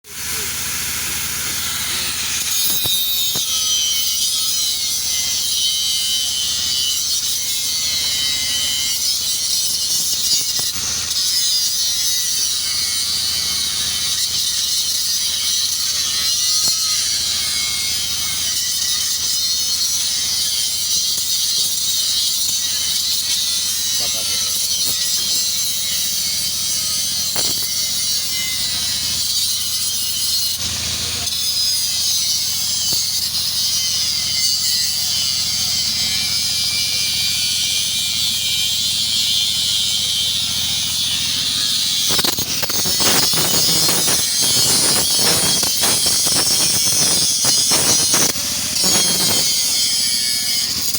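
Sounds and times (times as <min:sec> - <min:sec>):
welding hiss and crackle: 0:00.1 - 0:50.9.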